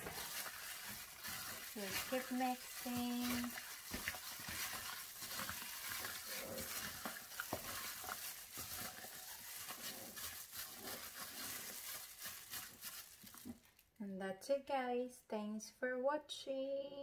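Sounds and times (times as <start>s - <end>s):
wet squishing of marinade: 0.0s - 13.8s
plastic glove rustle: 0.0s - 13.9s
small crackles: 0.0s - 14.0s.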